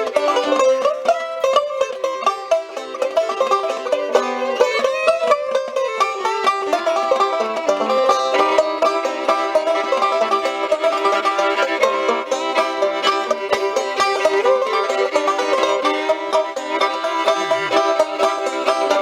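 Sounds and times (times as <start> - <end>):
bluegrass string music: 0.0 - 19.0.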